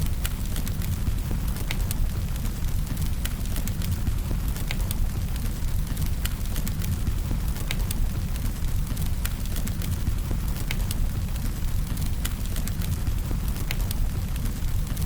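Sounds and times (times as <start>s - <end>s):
fire crackling and popping: 0.0s - 15.0s
flame rumbling: 0.0s - 15.0s.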